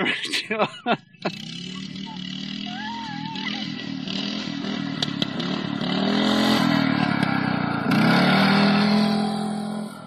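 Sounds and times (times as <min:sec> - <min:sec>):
lawnmower engine revving: 0:01.1 - 0:10.0.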